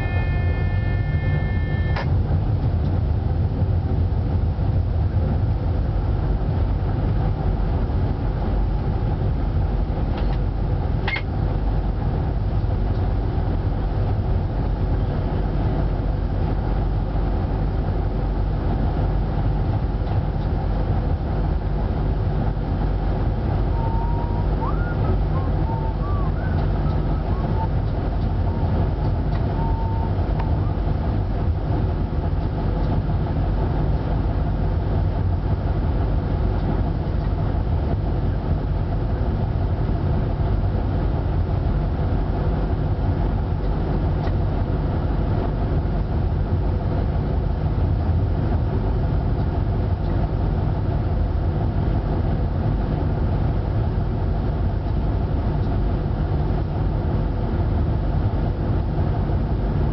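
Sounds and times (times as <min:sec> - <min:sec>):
locomotive engine drone: 0:00.0 - 0:59.9.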